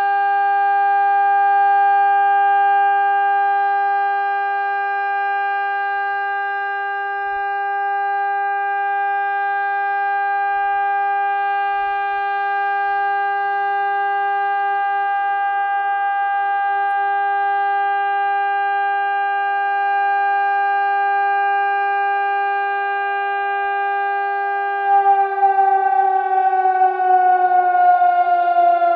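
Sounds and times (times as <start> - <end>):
steady warning siren: 0.0 - 28.9.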